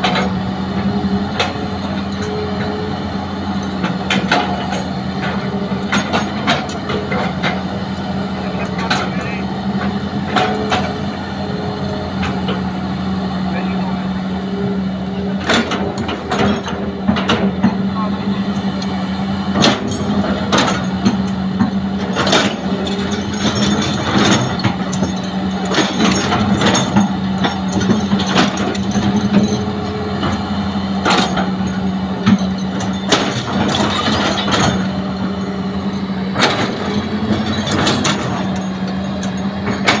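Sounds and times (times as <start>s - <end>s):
diesel machinery droning: 0.0s - 40.0s
excavator clanks and knocks: 0.0s - 40.0s.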